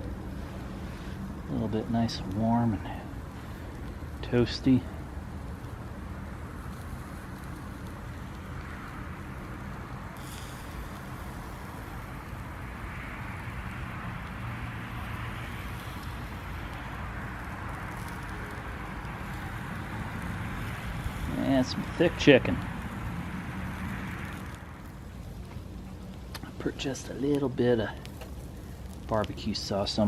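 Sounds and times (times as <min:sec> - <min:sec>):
low steady rumble: 0:00.0 - 0:30.0
food sizzling on a grill: 0:03.1 - 0:30.0.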